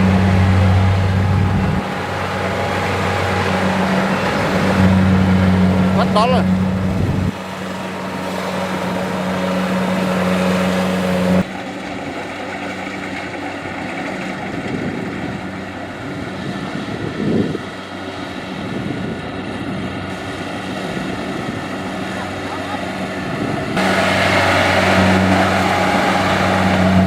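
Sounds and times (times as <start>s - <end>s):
combine harvester engine running: 0.0s - 27.0s.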